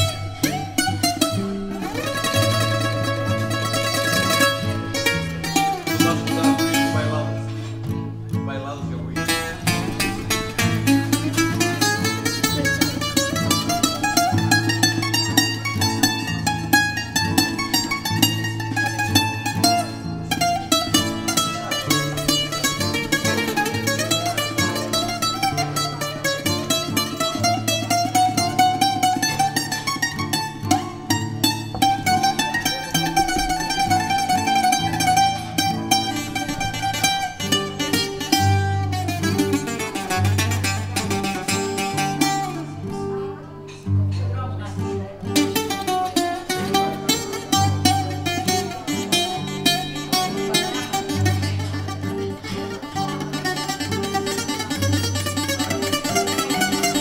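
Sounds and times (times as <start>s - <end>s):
bouzouki plucked runs: 0.0s - 44.1s, 44.8s - 57.0s.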